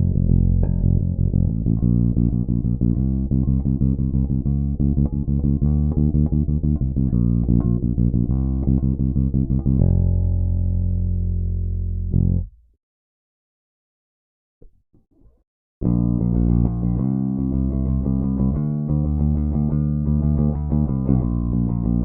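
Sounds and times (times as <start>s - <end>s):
electric bass playing notes: 0.0s - 12.6s, 15.8s - 22.0s.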